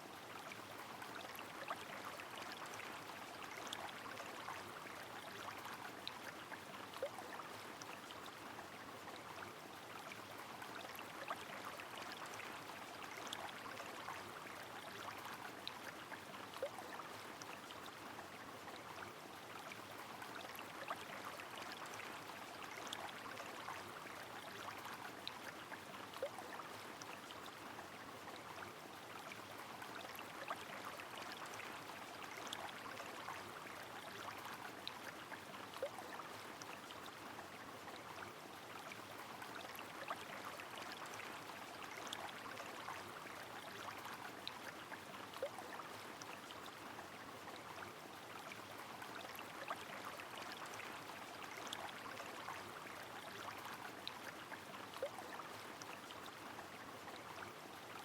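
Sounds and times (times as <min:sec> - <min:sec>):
water drips and splashes: 0:00.0 - 0:58.0.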